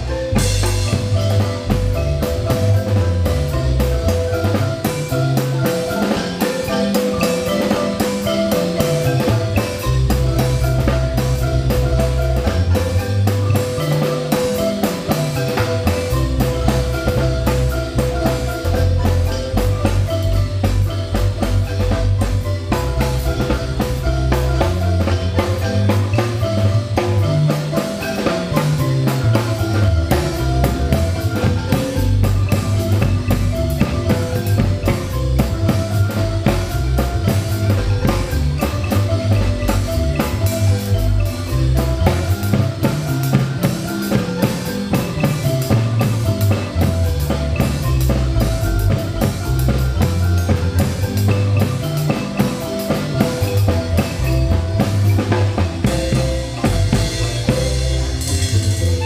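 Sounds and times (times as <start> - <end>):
bass line: 0.0 - 59.0
drum kit steady beat: 0.0 - 59.0
marimba rolled notes: 0.0 - 59.0.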